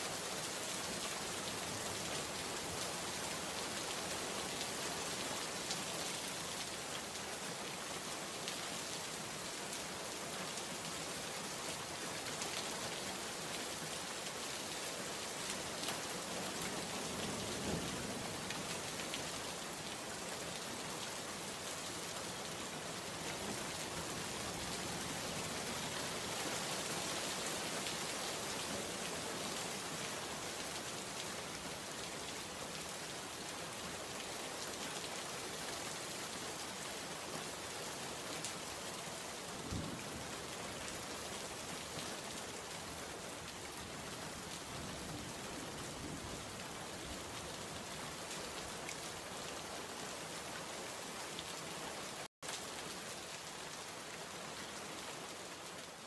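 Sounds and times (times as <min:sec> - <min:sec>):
steady rain downpour: 0:00.0 - 0:56.0.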